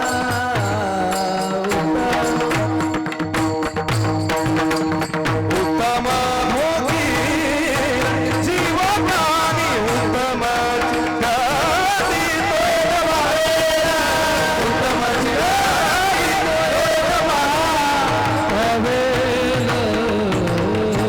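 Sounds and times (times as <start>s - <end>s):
person singing devotional melody: 0.0s - 21.0s.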